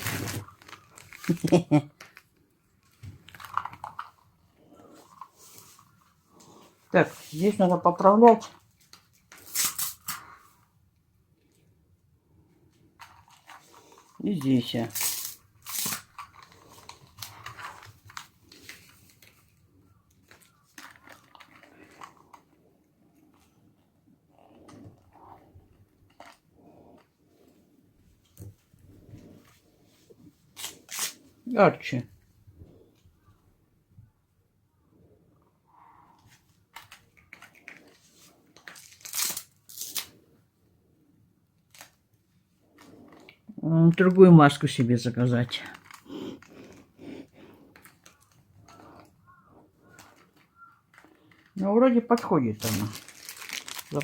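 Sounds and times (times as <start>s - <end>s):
rustling and clicks of handling: 0.0s - 10.7s, 12.4s - 31.4s, 36.2s - 40.4s, 41.5s - 54.0s.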